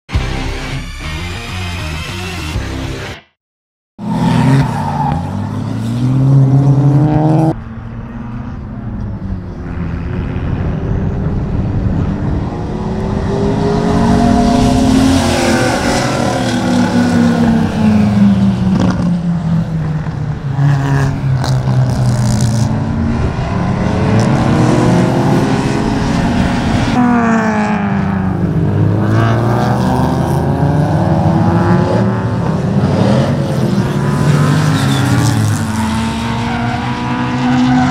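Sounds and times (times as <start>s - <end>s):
car engines revving: 4.0s - 37.9s.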